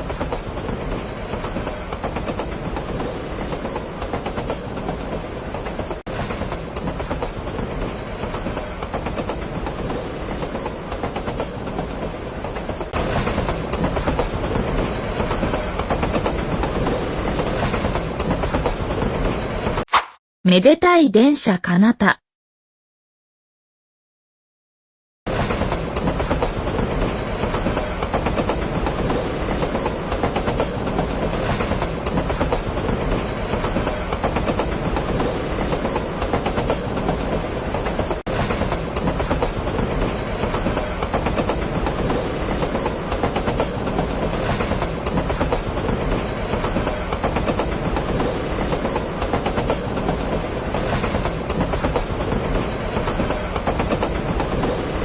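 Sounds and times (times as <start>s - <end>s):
train running on track: 0.0s - 19.8s, 25.3s - 55.0s.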